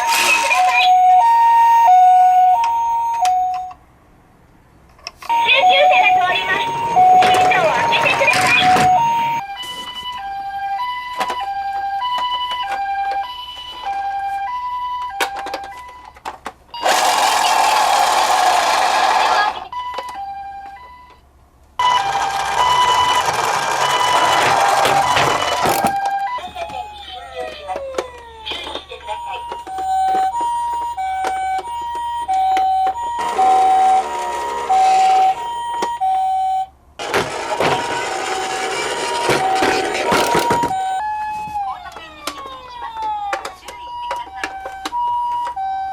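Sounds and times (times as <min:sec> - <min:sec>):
toy siren two-tone: 0:00.0 - 0:03.8, 0:05.3 - 0:16.2, 0:16.8 - 0:18.2, 0:19.0 - 0:21.2, 0:21.8 - 0:36.7, 0:37.6 - 0:45.9.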